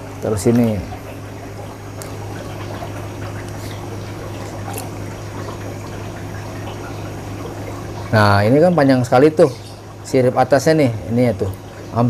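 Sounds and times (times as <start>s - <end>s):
steady low hum: 0.0s - 12.0s
water sloshing and trickling: 0.0s - 12.0s.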